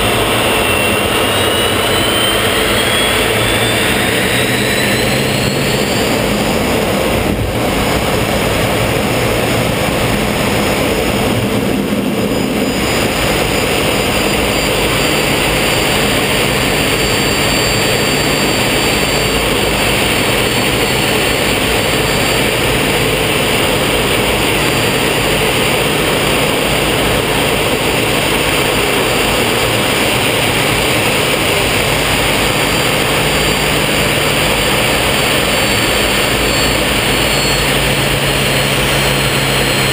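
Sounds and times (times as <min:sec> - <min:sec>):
jet engine roaring with whine: 0:00.0 - 0:39.9.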